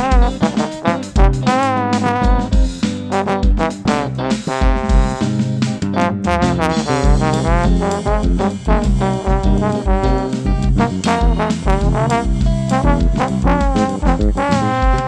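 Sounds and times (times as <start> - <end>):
band with bass beat: 0.0 - 15.0
trombone sliding melody: 0.0 - 15.0.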